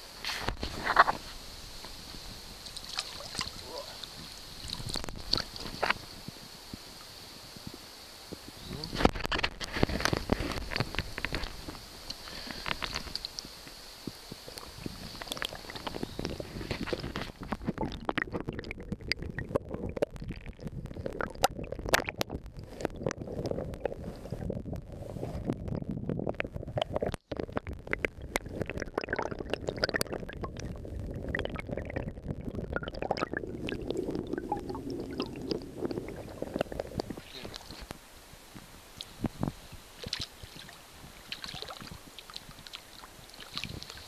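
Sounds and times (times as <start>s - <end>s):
water splashing and gurgling: 0.0s - 44.0s.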